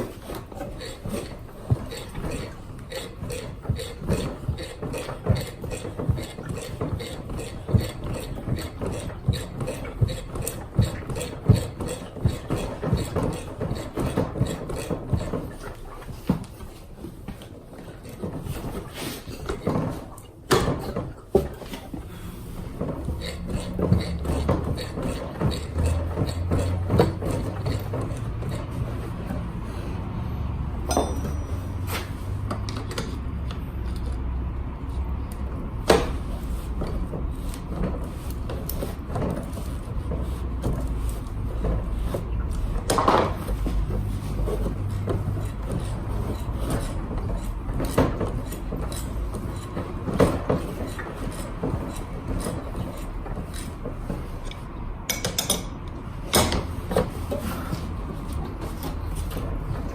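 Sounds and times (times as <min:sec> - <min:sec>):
tools and metal parts knocking: 0:00.0 - 0:16.4, 0:22.6 - 0:29.6, 0:30.7 - 0:34.2, 0:36.8 - 0:59.9.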